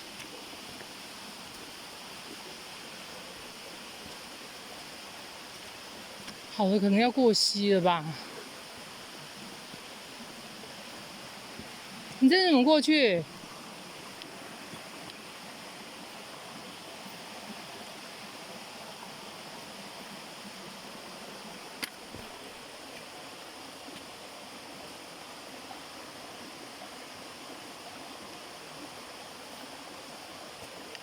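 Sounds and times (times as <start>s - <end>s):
stream flowing over rocks: 0.0s - 31.0s.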